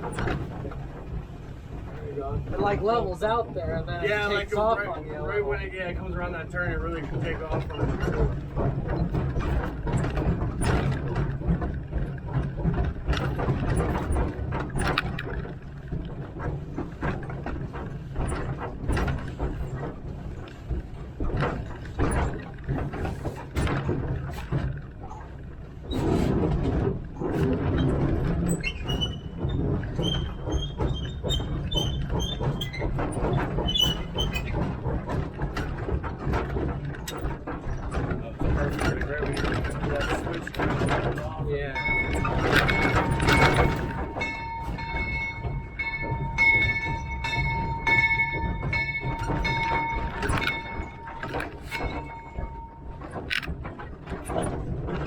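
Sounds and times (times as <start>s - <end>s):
rattling knocks: 0.0s - 55.0s
steam locomotive rumbling: 0.0s - 55.0s
wheel flanges squealing: 0.0s - 55.0s.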